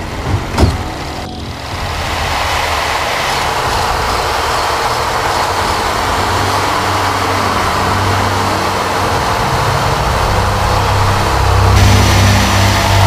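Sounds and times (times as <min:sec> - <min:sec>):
aircraft engine and airflow rush: 0:00.0 - 0:13.0.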